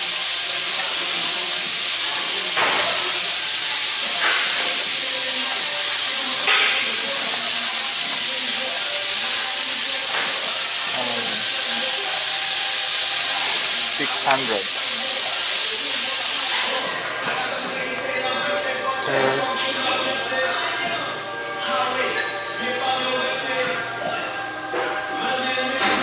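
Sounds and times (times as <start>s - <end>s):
steady loud hiss: 0.0s - 26.0s.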